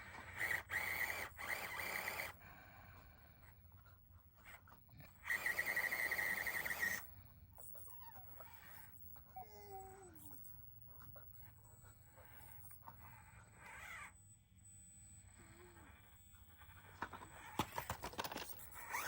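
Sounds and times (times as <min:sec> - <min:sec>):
small electric motor whining: 0:00.0 - 0:03.6, 0:04.4 - 0:19.0.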